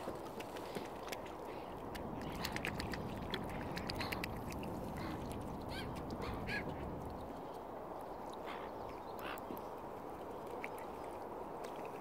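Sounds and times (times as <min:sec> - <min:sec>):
waterbirds calling: 0:00.0 - 0:12.0.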